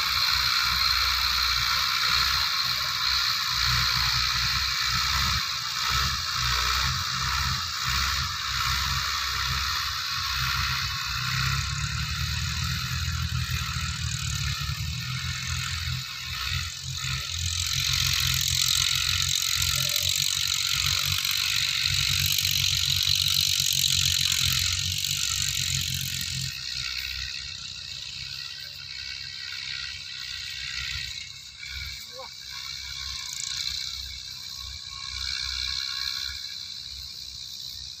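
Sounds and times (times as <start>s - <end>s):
distant tractor diesel engine: 0.0s - 38.0s.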